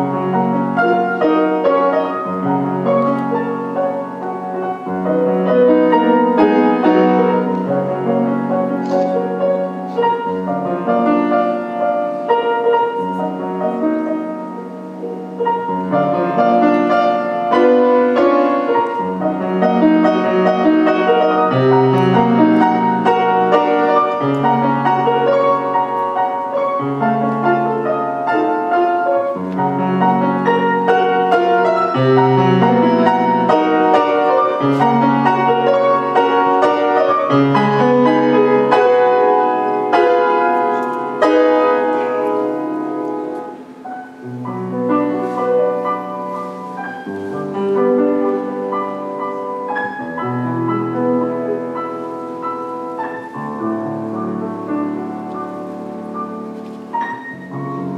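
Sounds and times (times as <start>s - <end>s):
solo piano classical piece: 0.0s - 57.9s.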